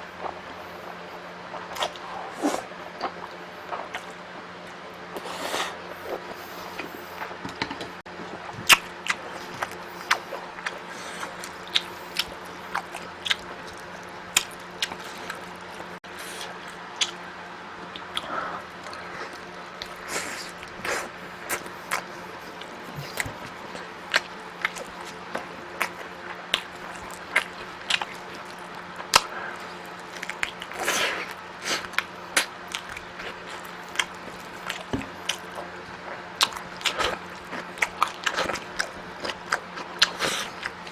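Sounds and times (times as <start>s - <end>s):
steady low hum: 0.0s - 40.9s
man chewing and biting food: 0.2s - 40.9s.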